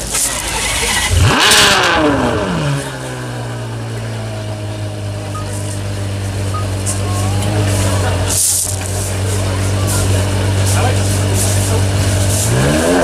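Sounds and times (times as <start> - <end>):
car engine starting and revving: 0.0 - 13.0.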